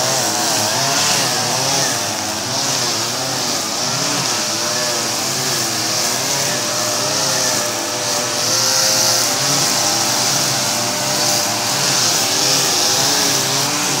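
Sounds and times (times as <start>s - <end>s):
cutting line hiss: 0.0s - 14.0s
string trimmer engine: 0.0s - 14.0s.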